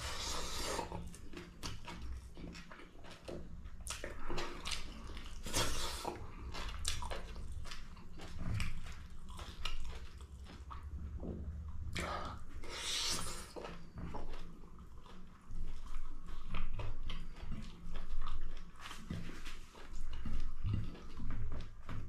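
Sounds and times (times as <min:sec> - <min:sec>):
chewing meat: 0:00.0 - 0:22.0.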